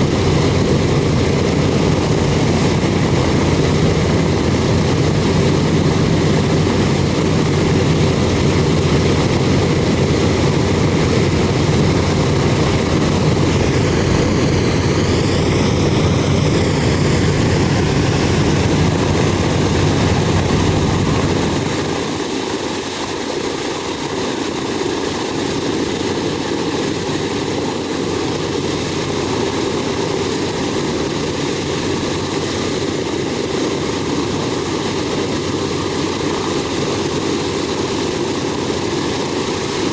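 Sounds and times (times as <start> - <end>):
radial aircraft engines running: 0.0 - 39.9.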